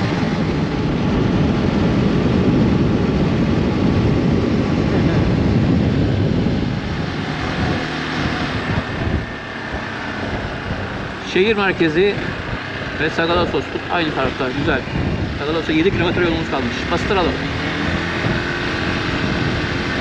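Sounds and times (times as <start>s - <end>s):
motorcycle engine riding: 0.0s - 20.0s
wind rushing: 0.0s - 20.0s.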